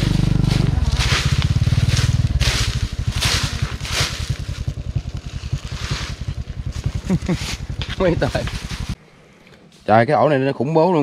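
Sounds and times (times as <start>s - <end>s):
low fast throbbing: 0.0s - 9.0s
scraping through soil and leaves: 0.0s - 9.0s.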